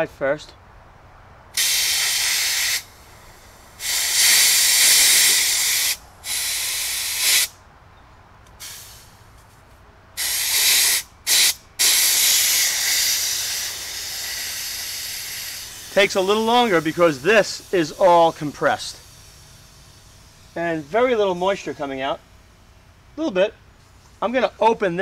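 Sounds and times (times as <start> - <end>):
compressed air hissing: 1.5 - 7.6, 8.5 - 24.4.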